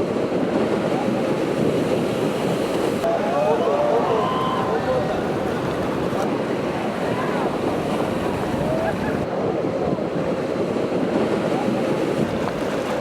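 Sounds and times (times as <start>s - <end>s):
ocean surf: 0.0s - 13.0s
wind on microphone: 0.0s - 13.0s.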